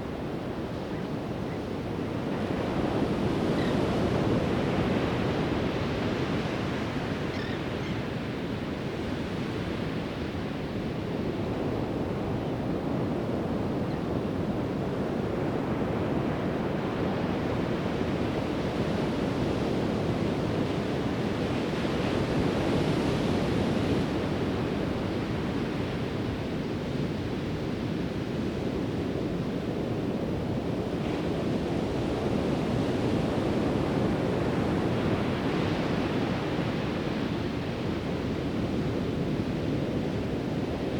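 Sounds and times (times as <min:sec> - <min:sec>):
ocean waves breaking on a beach: 0:00.0 - 0:40.9.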